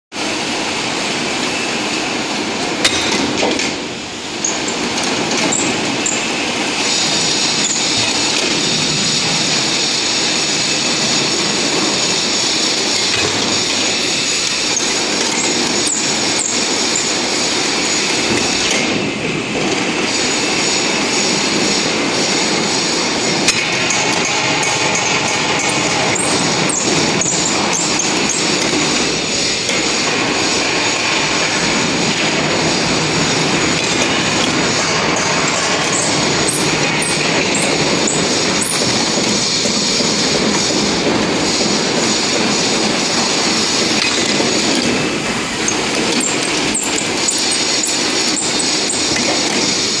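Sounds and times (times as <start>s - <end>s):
industrial machinery noise: 0.1s - 50.0s.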